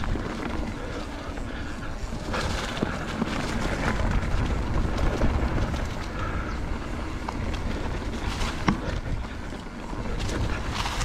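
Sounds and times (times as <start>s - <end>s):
bike rattling: 0.0s - 11.0s
wind noise on microphone: 1.9s - 11.0s.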